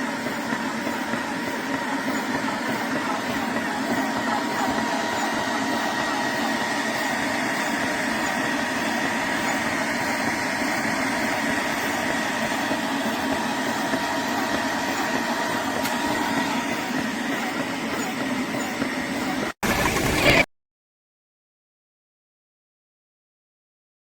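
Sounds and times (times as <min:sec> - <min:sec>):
air compressor running: 0:00.0 - 0:20.5.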